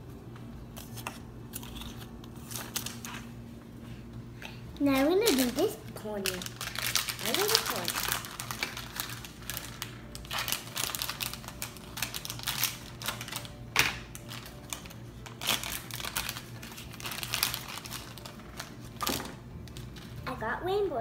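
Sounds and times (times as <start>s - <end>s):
foil bag crinkling: 0.8s - 3.3s, 4.8s - 20.3s.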